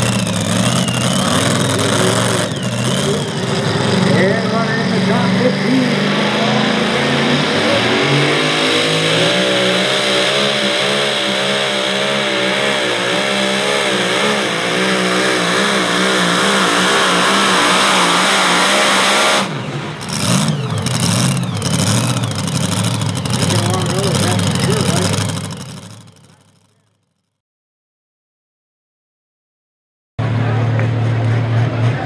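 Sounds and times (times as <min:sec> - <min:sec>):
engine running unevenly: 0:00.0 - 0:27.2, 0:30.2 - 0:32.0
pulling truck engine at full throttle: 0:00.0 - 0:27.2, 0:30.2 - 0:32.0.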